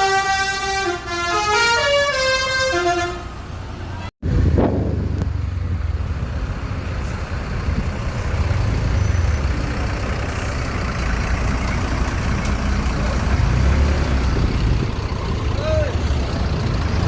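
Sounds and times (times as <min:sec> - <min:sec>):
bus diesel engine rumble: 0:00.0 - 0:17.0
road noise: 0:00.0 - 0:17.0.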